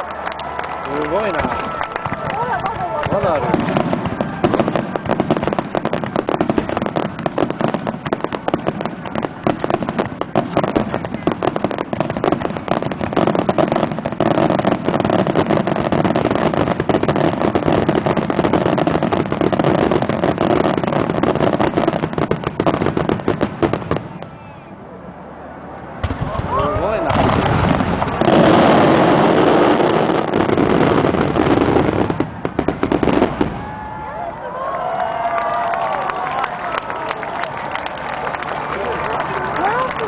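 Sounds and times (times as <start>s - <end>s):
fireworks crackling and popping: 0.0s - 24.7s, 26.0s - 40.0s.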